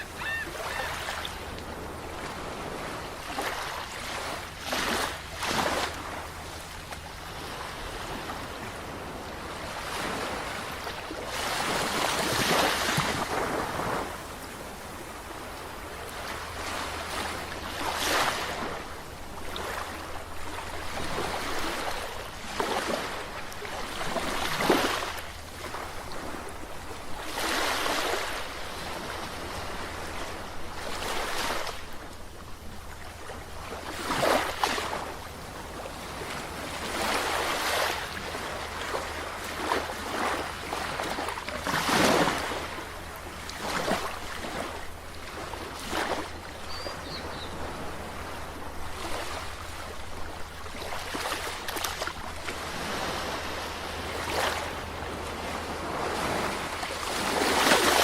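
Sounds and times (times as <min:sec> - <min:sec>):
ocean waves breaking ashore: 0:00.0 - 0:58.0.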